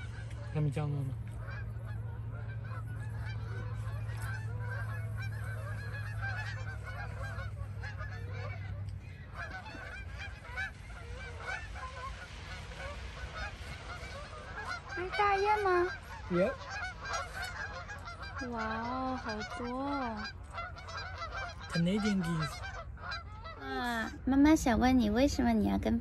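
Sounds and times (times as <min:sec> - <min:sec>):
geese honking: 0:00.0 - 0:25.8
steady low hum: 0:00.0 - 0:26.0.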